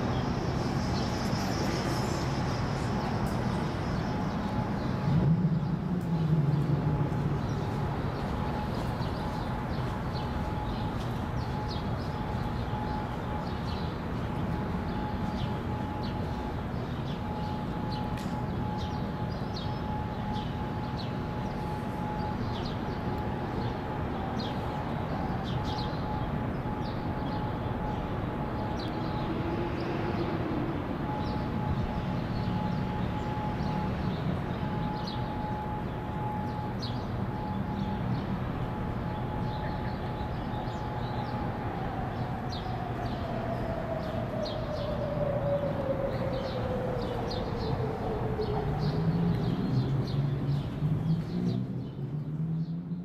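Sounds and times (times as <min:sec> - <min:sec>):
traffic noise: 0:00.0 - 0:53.0
warning siren winding down: 0:02.8 - 0:50.5.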